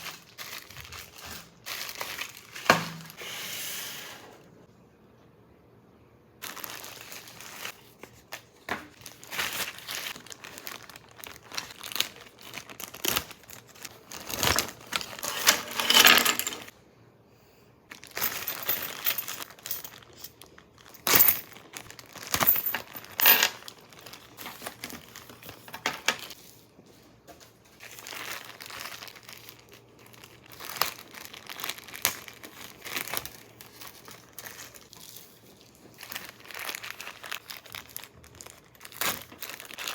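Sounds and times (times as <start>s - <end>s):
packaging crinkling: 0.0s - 3.2s, 6.4s - 15.3s, 17.9s - 26.6s, 27.4s - 39.9s.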